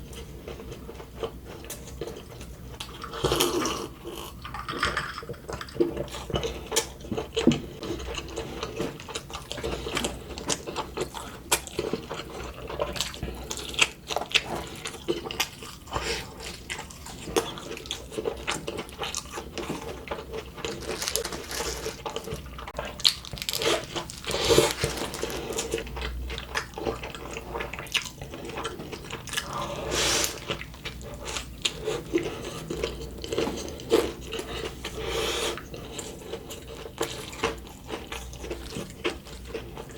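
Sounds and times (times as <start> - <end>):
person chewing and smacking: 0.1 - 39.9.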